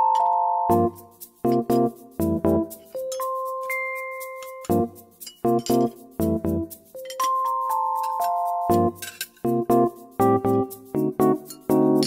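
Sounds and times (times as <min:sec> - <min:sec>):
light background music: 0:00.0 - 0:12.0.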